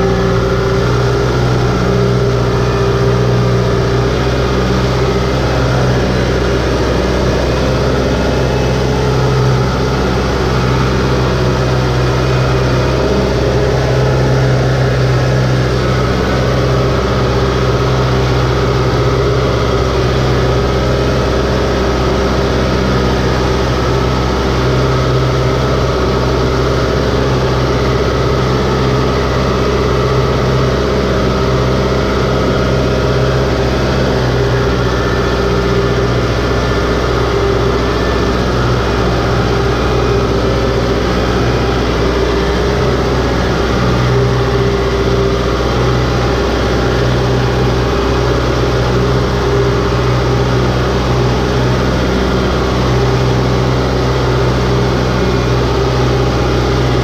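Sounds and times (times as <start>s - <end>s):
tractor diesel engine running: 0.0s - 57.0s
wheels churning through mud and water: 0.0s - 57.0s.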